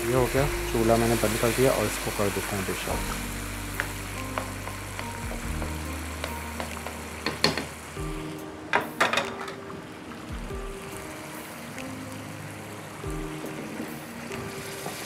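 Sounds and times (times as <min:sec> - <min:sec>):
curry sizzling in hot oil: 0:00.0 - 0:08.4, 0:10.1 - 0:15.0.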